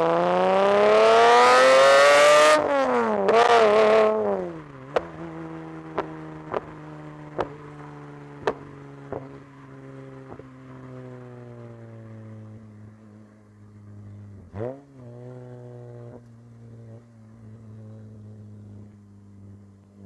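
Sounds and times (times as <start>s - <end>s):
car engine idling: 2.7s - 20.0s.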